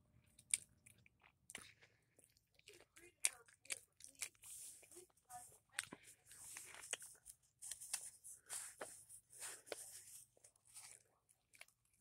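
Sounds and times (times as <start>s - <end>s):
wet chewing with clicks: 0.2s - 12.0s.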